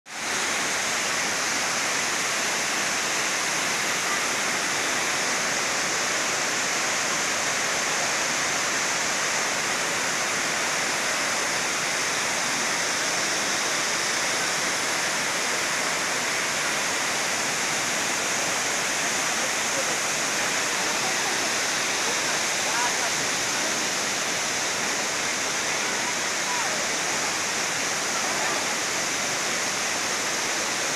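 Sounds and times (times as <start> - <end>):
waterfall crashing into pool: 0.1 - 30.9.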